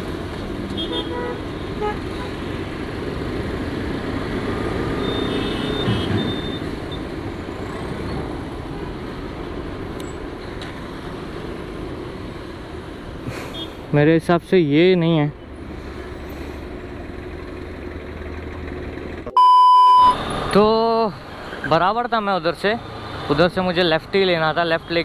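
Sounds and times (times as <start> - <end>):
bus engine: 0.0 - 25.0
heavy city traffic: 0.0 - 25.0.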